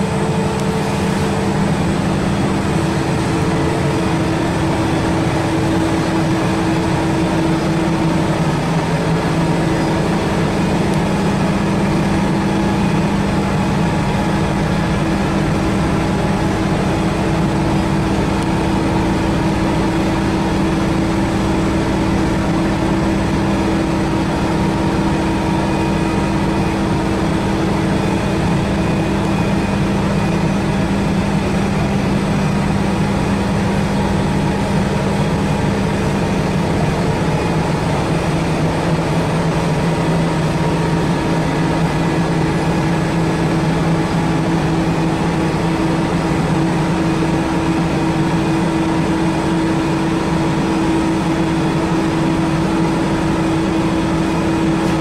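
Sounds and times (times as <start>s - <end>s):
machinery drone with low hum: 0.0s - 55.0s.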